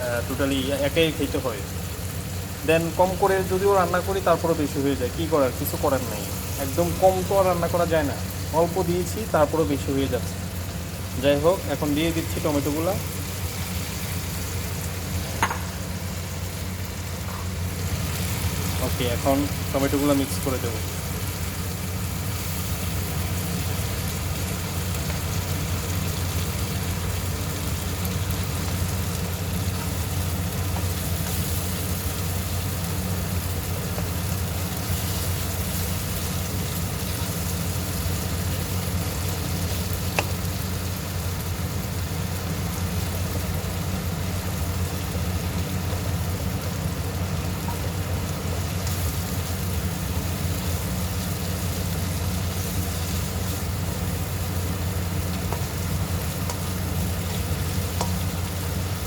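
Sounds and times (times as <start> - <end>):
food sizzling in hot oil: 0.0 - 59.0
steady low hum: 0.0 - 59.0.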